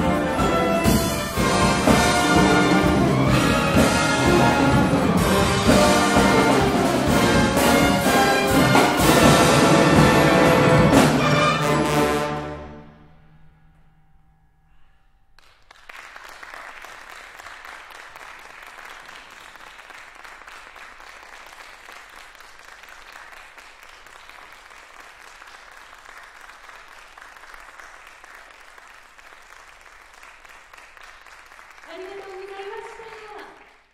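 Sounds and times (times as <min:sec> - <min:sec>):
audience applause: 0:00.0 - 0:11.4, 0:15.4 - 0:33.9.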